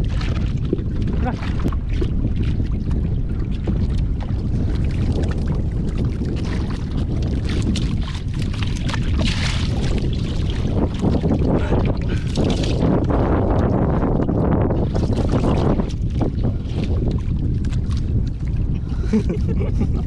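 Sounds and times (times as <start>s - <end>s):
water sloshing around boat: 0.0s - 20.0s
wind rumbling on microphone: 0.0s - 20.0s.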